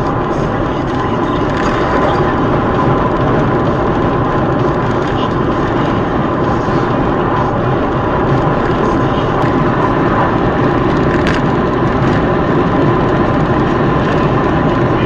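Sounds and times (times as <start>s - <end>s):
car driving at highway speed: 0.0s - 15.0s.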